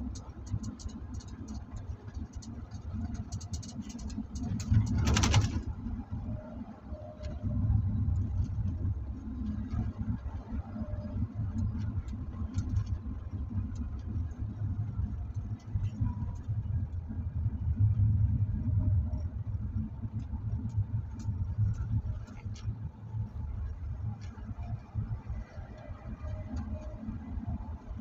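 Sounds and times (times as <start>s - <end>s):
engine and road noise: 0.0s - 28.0s.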